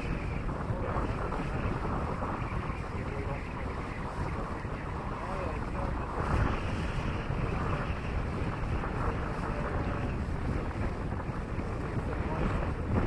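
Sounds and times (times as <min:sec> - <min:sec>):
rush of air and water: 0:00.0 - 0:13.0
wind buffeting microphone: 0:00.0 - 0:13.0.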